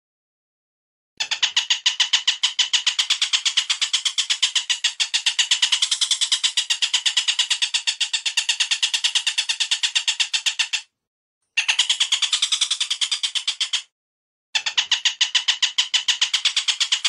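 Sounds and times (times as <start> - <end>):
bird call repeated notes: 1.2 - 10.9, 11.6 - 13.9, 14.6 - 17.0.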